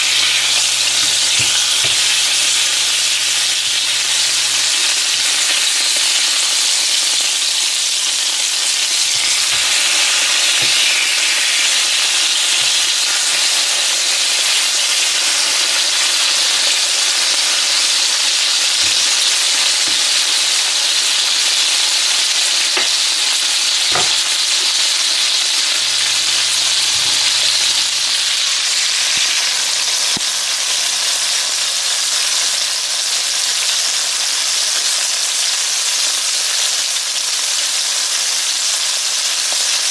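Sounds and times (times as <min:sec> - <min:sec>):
fish frying in oil: 0:00.0 - 0:39.9.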